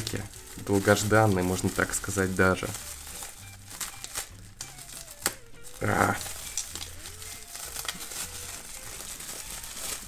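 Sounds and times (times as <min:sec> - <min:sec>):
cling film crinkling: 0:00.0 - 0:10.0.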